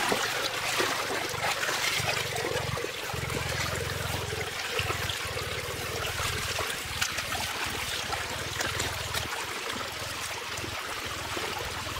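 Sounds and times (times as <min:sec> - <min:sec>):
water splashing into pool: 0:00.0 - 0:11.9.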